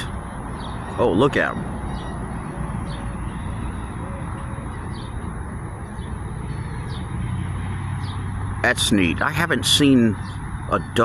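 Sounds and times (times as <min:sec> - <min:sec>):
city traffic hum: 0:00.0 - 0:11.0
small birds chirping: 0:00.0 - 0:11.0.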